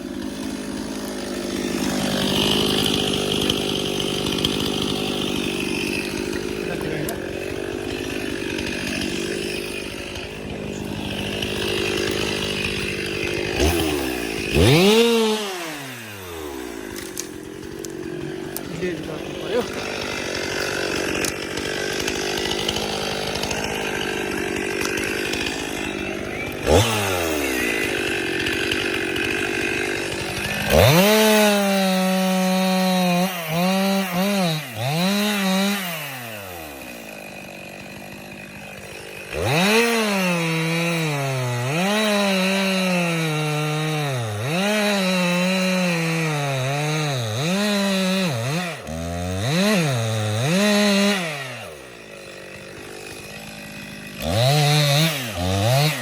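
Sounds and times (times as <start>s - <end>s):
chainsaw revving while cutting: 0.0s - 56.0s.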